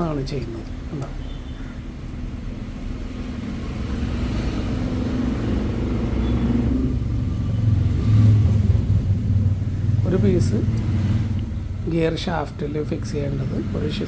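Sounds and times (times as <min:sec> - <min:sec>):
vehicle engine rumble: 0:01.8 - 0:14.0.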